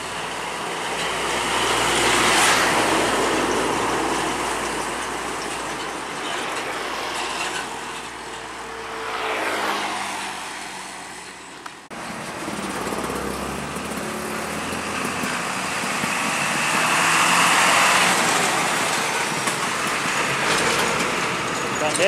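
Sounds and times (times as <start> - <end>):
truck driving away: 0.0 - 11.3, 11.9 - 22.0
diesel truck passing close: 0.0 - 22.0.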